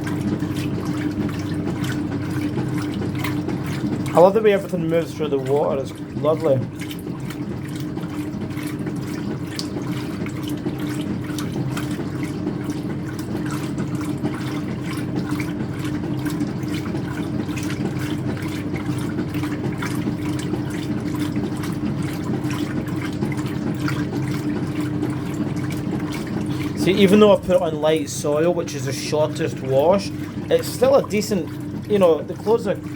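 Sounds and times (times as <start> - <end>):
washing machine hum: 0.0 - 32.9
water sloshing in washing machine: 0.0 - 32.9.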